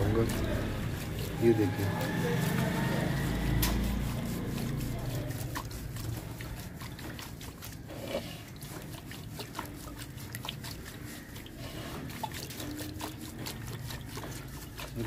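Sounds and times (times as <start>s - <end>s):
pigeons pecking grain: 0.0s - 15.0s.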